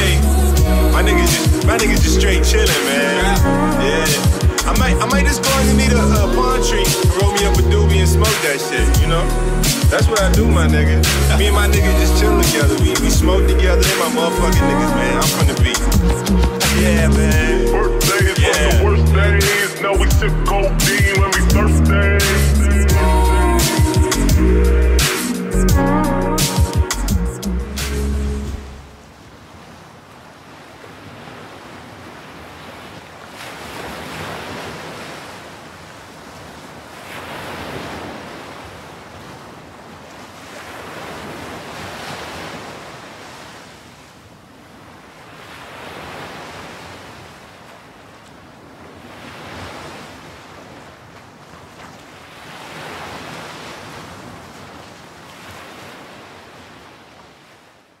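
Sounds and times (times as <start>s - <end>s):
ocean waves washing in: 0.0s - 25.6s, 27.7s - 58.0s.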